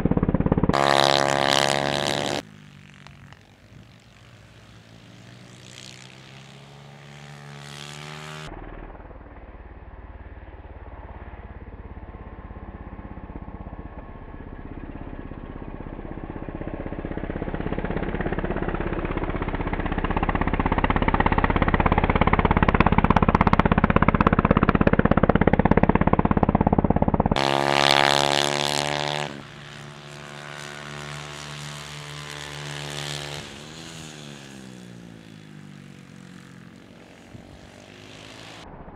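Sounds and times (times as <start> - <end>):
small motorbike engines revving: 0.0 - 38.7.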